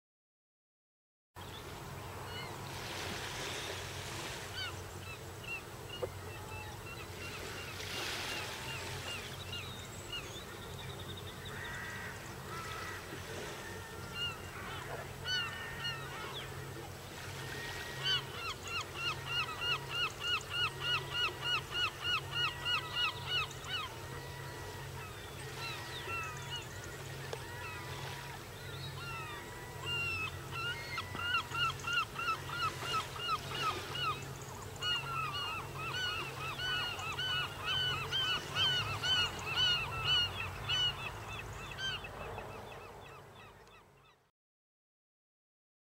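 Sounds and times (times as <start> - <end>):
wild birds calling: 2.2 - 44.2.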